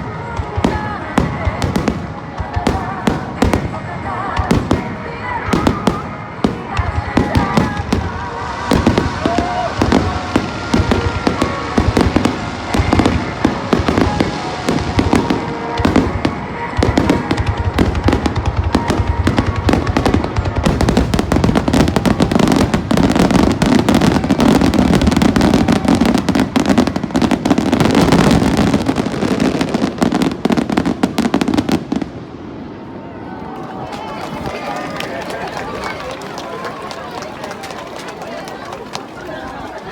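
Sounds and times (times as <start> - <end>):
fireworks booming and crackling: 0.0 - 32.8.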